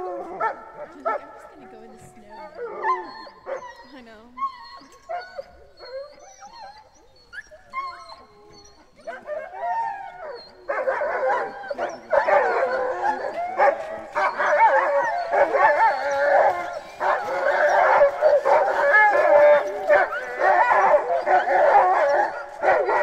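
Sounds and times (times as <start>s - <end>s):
dogs howling and yelping: 0.0s - 23.0s
dogs whining and yipping: 0.0s - 23.0s.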